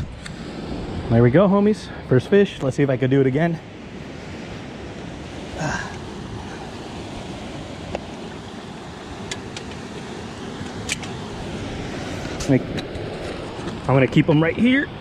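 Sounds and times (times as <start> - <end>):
surf washing against rocks: 0.0 - 15.0.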